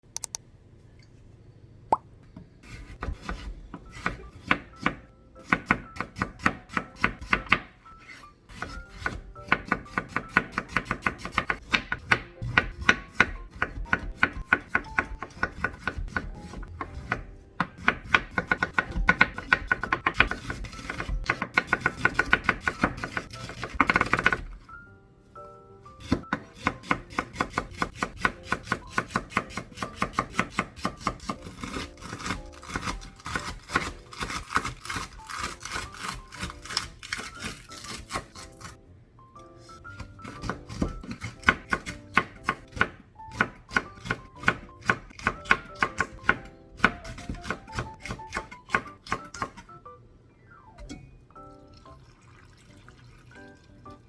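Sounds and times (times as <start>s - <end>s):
knife chopping on cutting board: 2.6s - 24.6s, 26.0s - 38.8s, 39.9s - 49.6s.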